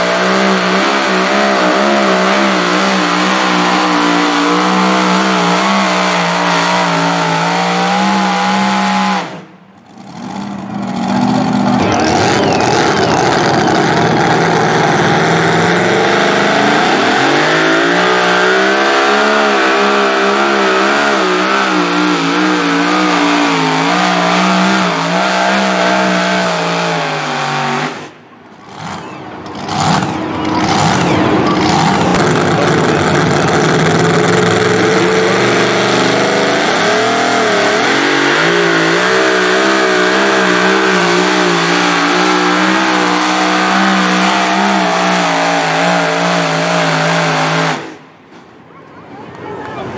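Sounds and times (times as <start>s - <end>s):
truck engine at full throttle: 0.0s - 48.7s.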